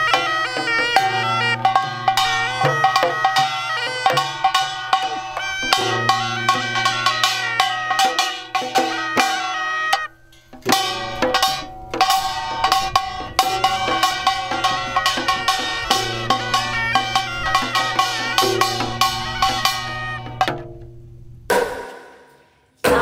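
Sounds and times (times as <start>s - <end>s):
sustained melody instruments: 0.0s - 21.6s
busy drum and percussion beat: 0.0s - 23.0s.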